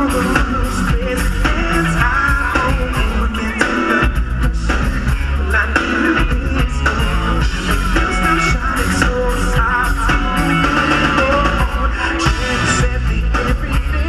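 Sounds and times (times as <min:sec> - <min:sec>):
heavy bass line: 0:00.0 - 0:14.0
live rock band playing: 0:00.0 - 0:14.0.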